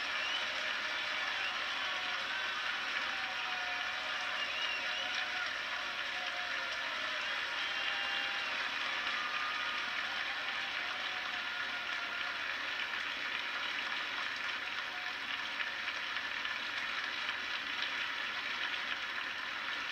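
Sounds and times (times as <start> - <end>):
crowd cheering and clapping: 0.0 - 19.9.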